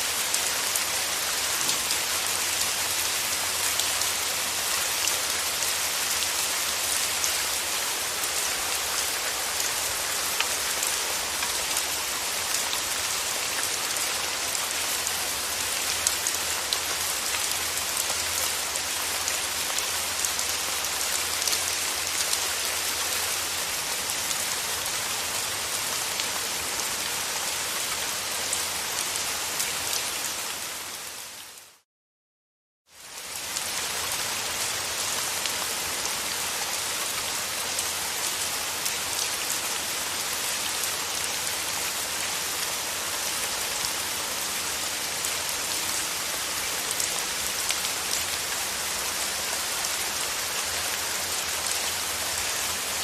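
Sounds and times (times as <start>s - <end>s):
steady rain falling: 0.0s - 31.8s, 32.9s - 53.0s.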